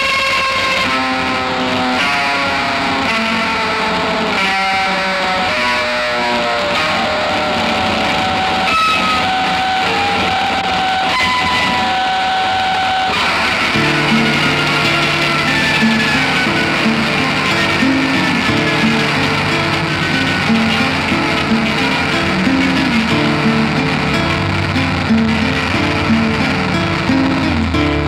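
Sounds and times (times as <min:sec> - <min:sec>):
psychedelic guitar music: 0:00.0 - 0:28.0
tape hiss: 0:00.0 - 0:28.0.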